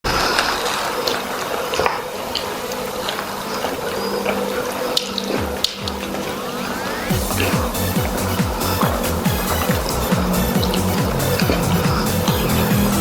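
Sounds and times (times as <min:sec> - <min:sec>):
rushing water like a running tap: 0:00.0 - 0:13.0.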